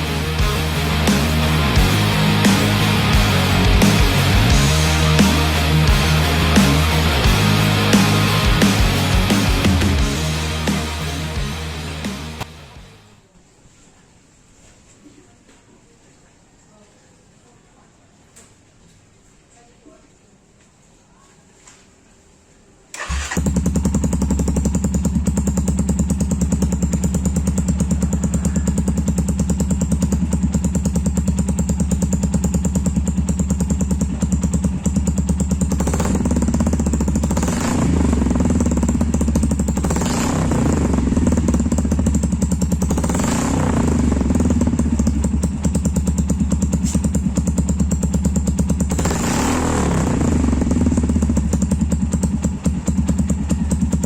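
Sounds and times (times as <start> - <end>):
motorcycle engine idling and revving: 0.0 - 13.0, 23.0 - 54.0.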